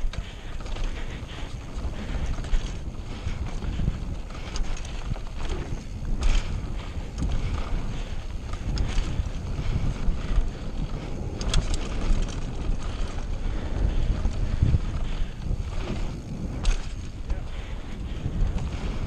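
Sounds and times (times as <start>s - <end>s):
bike knocks and rattles: 0.0s - 19.0s
bike tyres rumbling on dirt: 0.0s - 19.0s
wind buffeting microphone: 0.0s - 19.0s.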